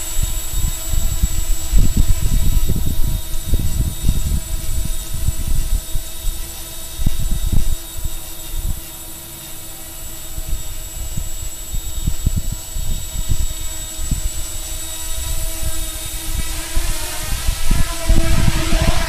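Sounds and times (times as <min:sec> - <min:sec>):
quadcopter motors whining: 0:00.0 - 0:19.0
wind rumbling on microphone: 0:00.0 - 0:19.0.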